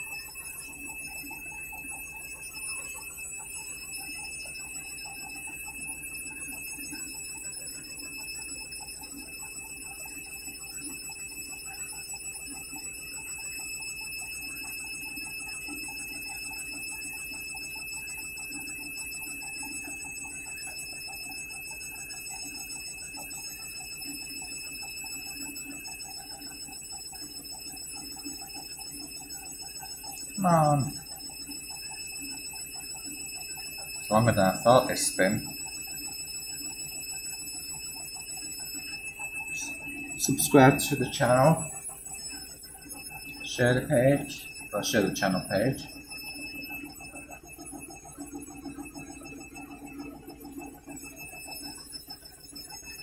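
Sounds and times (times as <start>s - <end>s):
washing machine drum spinning: 0.0s - 53.0s.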